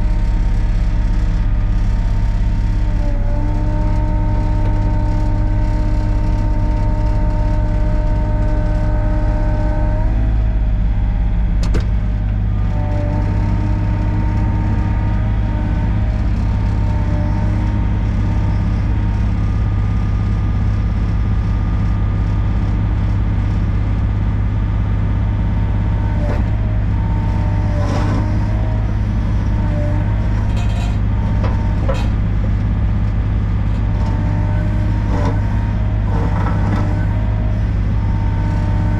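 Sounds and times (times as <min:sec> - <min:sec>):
diesel engine with hydraulic whine: 0:00.0 - 0:38.9.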